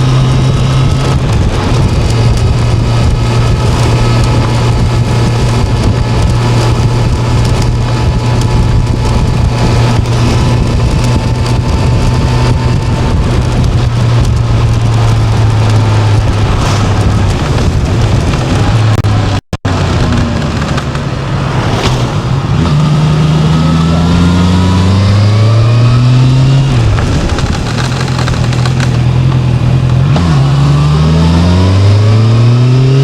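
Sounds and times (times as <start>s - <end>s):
motorcycle engine drone: 0.0s - 33.0s
wind and road noise: 0.0s - 33.0s.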